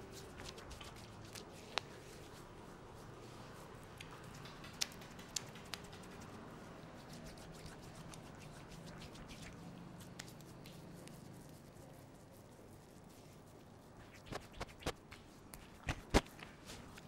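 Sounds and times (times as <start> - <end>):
fingers squishing lathered hair: 0.0 - 17.0.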